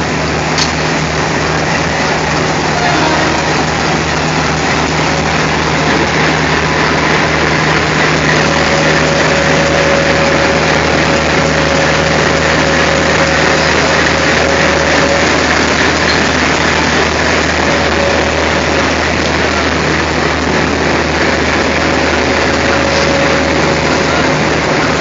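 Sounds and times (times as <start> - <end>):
diesel locomotive engine running: 0.0 - 25.0
faint steady whine: 0.0 - 25.0.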